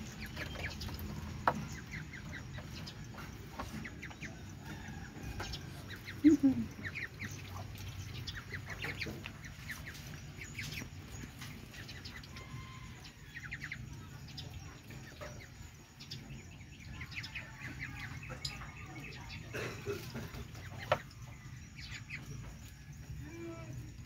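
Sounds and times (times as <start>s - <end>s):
ducklings peeping: 0.0s - 23.3s.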